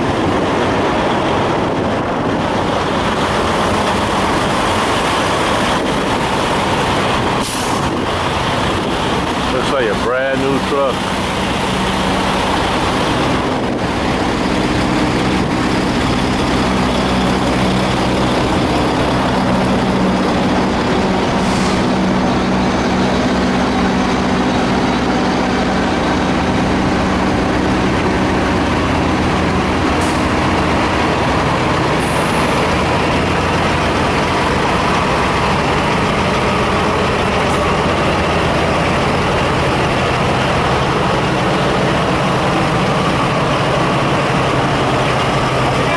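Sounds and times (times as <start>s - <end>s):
diesel truck engines idling: 0.0s - 45.9s.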